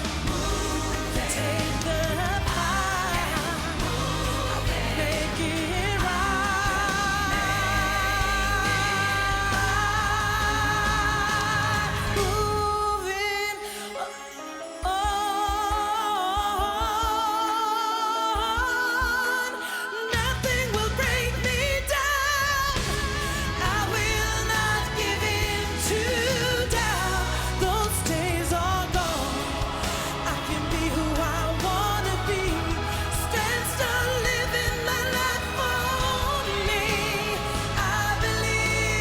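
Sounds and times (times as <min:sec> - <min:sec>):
live band with bass and drums: 0:00.0 - 0:12.8, 0:20.2 - 0:39.0
woman singing: 0:00.0 - 0:39.0.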